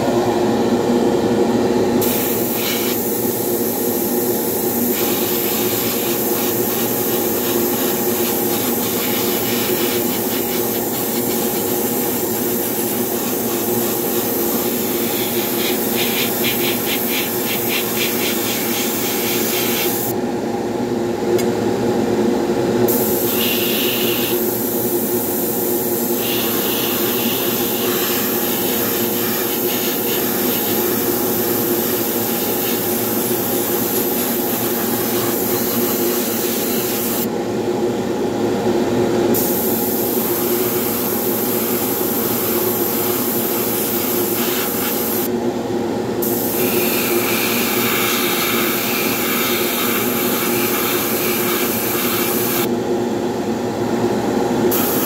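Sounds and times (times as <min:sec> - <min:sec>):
exhaust fan humming: 0:00.0 - 0:48.0
airbrush hissing: 0:02.0 - 0:20.1, 0:22.9 - 0:37.3, 0:39.4 - 0:45.3, 0:46.2 - 0:52.7.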